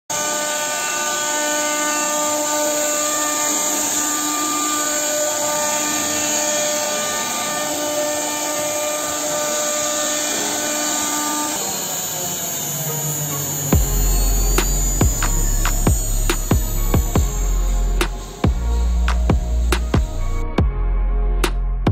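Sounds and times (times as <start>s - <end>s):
wood router spindle whine: 0.1s - 20.6s.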